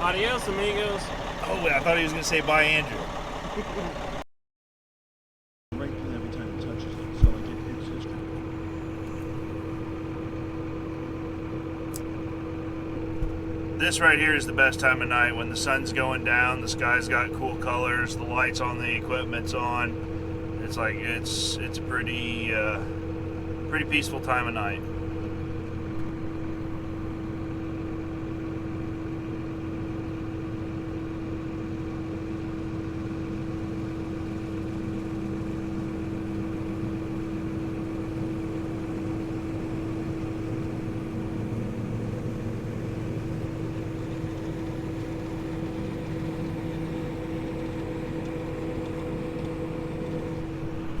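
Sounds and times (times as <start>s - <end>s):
truck engine idling: 0.0s - 4.2s, 5.8s - 51.0s.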